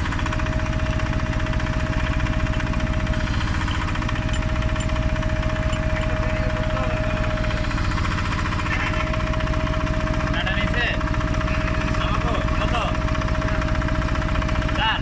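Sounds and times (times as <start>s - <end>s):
drilling rig engine throbbing: 0.0s - 15.0s
steady whine: 2.2s - 15.0s.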